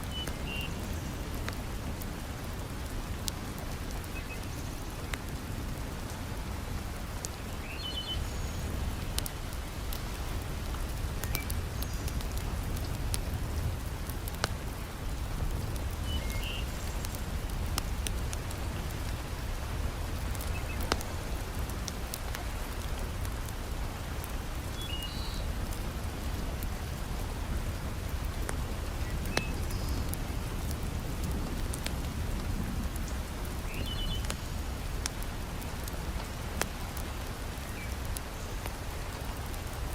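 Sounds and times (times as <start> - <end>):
heavy rain falling: 0.0 - 39.9
wood fire crackling: 0.0 - 39.9.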